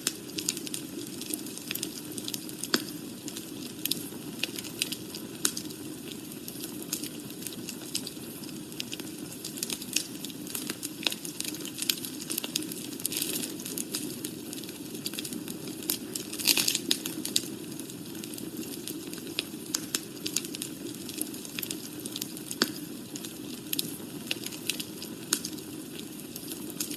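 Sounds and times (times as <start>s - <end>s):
fire popping and snapping: 0.0s - 26.9s
wood fire crackling: 0.0s - 26.9s.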